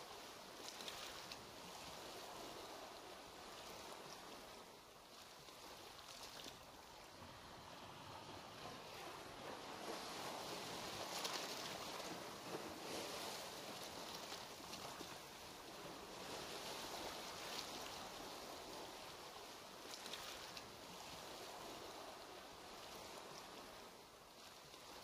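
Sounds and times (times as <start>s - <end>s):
underwater moving water: 0.1s - 25.0s.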